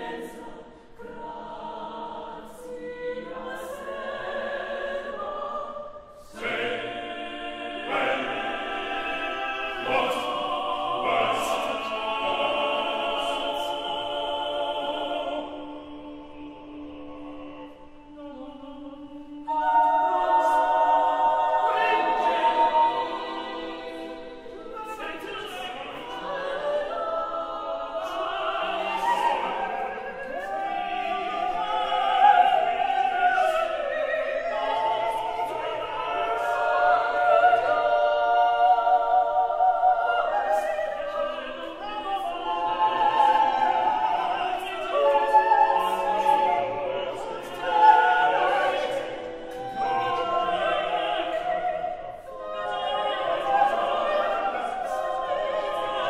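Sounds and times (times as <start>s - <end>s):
mixed chorus singing a cappella: 0.0s - 56.0s.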